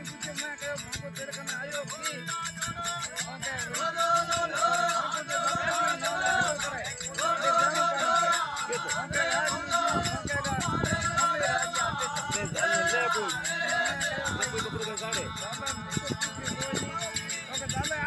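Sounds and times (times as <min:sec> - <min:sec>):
fast high percussion beat: 0:00.0 - 0:18.0
ornamented folk melody: 0:00.0 - 0:18.0.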